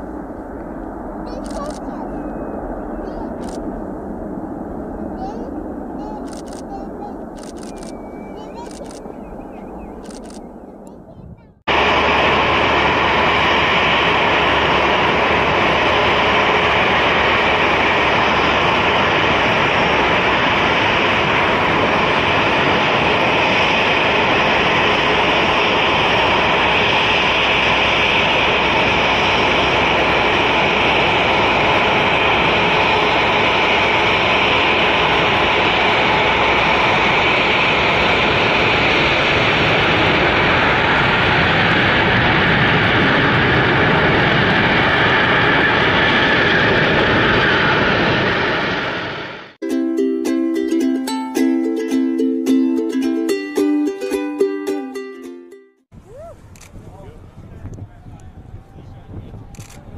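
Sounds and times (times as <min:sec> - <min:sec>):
jet engines roaring: 0:00.0 - 0:49.6.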